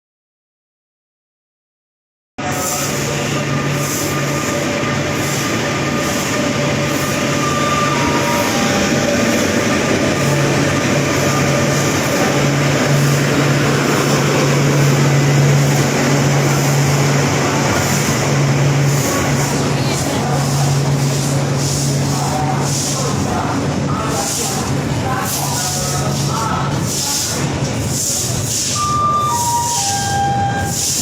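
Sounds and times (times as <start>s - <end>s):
train rolling noise: 2.4s - 31.0s.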